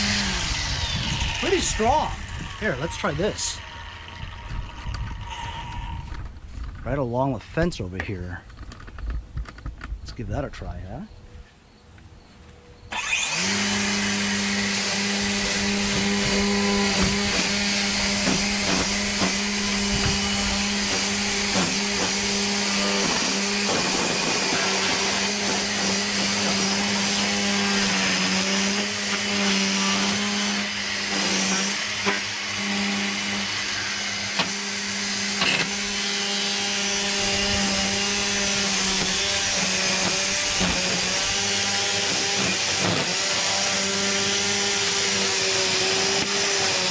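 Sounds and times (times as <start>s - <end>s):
trimmer line cutting weeds: 0.0s - 6.1s, 12.9s - 46.9s
string trimmer motor whine: 0.0s - 6.5s, 12.9s - 46.9s.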